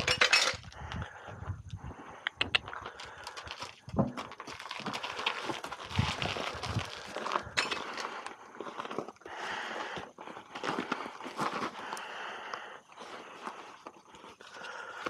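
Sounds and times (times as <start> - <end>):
boots and hooves crunching on gravel: 2.6 - 15.0.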